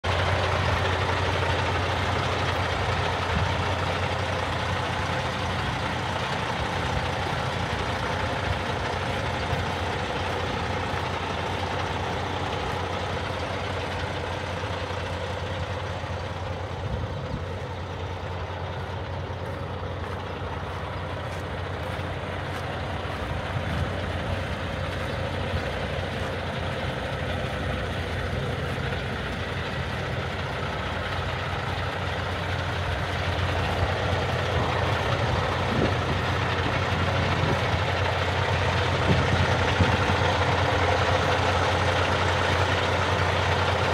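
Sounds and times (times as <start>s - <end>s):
truck diesel engine idling: 0.0s - 43.9s.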